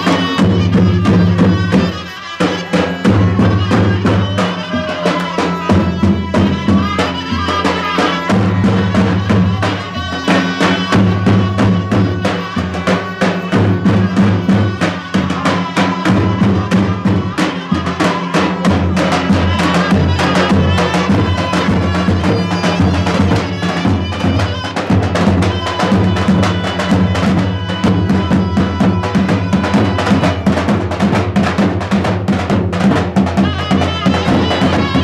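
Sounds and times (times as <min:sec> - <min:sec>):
folk dance music: 0:00.0 - 0:35.0.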